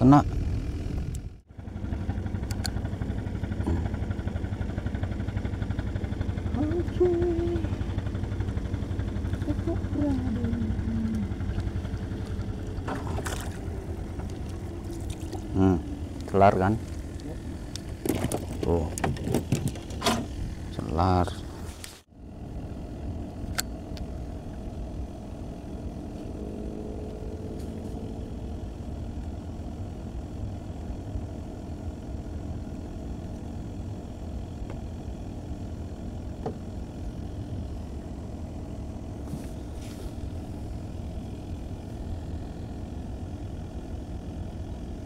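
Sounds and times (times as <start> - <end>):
low engine drone: 0.0 - 45.0.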